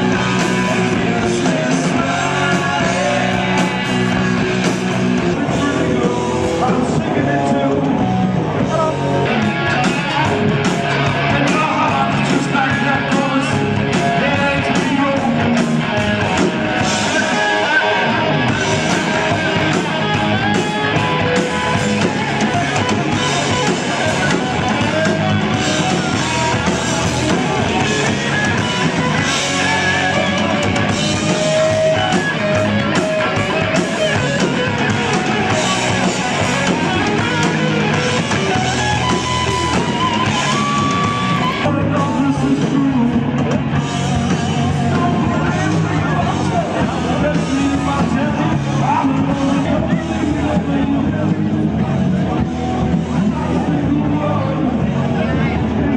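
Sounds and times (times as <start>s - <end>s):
drum kit: 0.0s - 55.9s
electric guitars: 0.0s - 55.9s.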